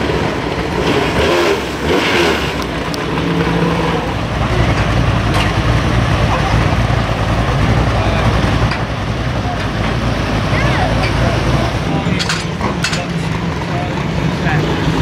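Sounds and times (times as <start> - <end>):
car engines running: 0.0 - 15.0
deep engine rumble: 0.0 - 15.0.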